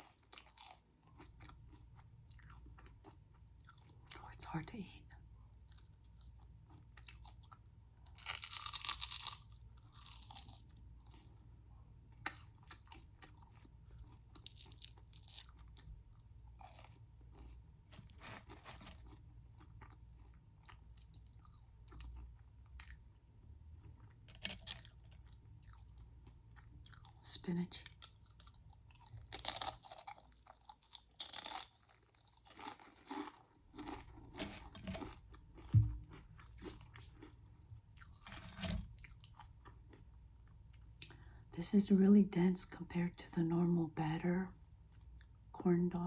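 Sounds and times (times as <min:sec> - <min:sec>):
crunchy chewing of fried food: 0:00.0 - 0:41.5, 0:44.7 - 0:45.5.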